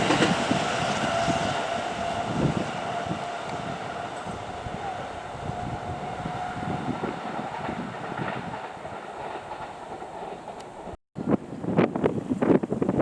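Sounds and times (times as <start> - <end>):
electric train running on rails: 0.0 - 13.0
wind buffeting microphone: 0.0 - 13.0.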